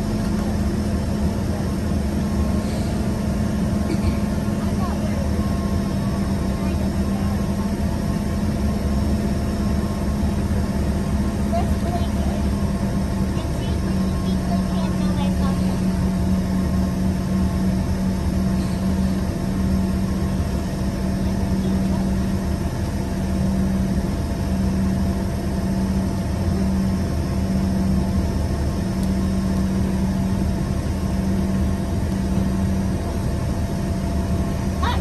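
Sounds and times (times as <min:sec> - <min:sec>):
low cabin hum: 0:00.0 - 0:35.0.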